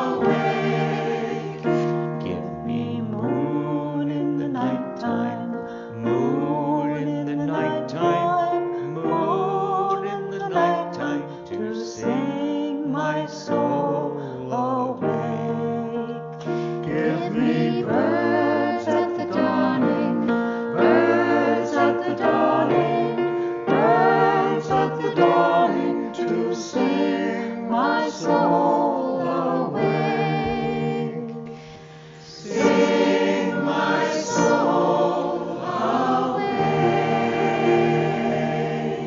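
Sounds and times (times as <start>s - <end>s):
choir singing a hymn: 0.0s - 39.0s.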